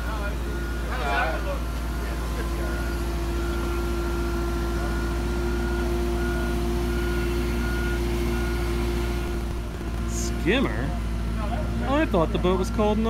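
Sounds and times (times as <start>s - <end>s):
travel lift droning: 0.0s - 12.6s.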